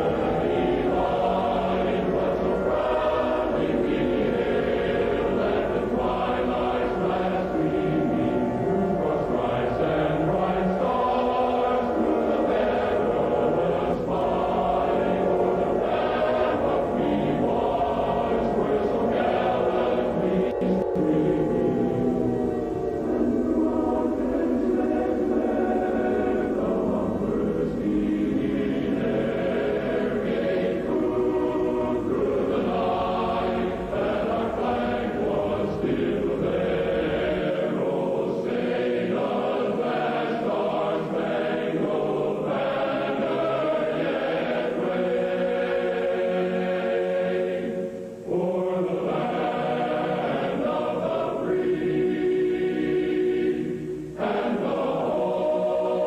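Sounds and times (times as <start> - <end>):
choir singing sustained chords: 0.0 - 56.0.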